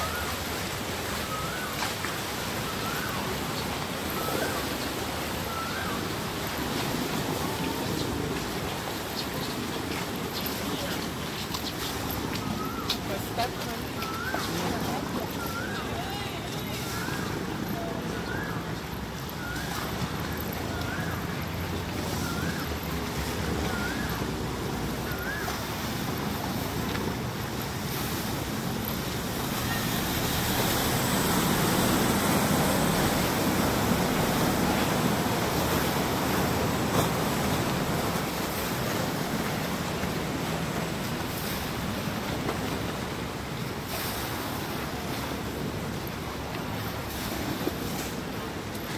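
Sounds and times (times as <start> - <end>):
boat engine running: 0.0 - 48.9
water washing along canal: 0.0 - 48.9.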